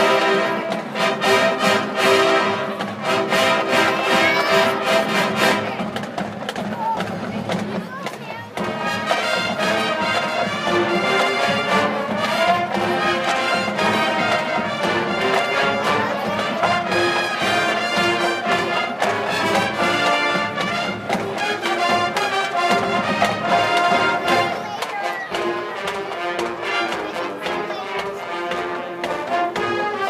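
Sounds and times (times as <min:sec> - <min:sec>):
drums and percussion: 0:00.0 - 0:30.0
marching band brass: 0:00.0 - 0:30.0.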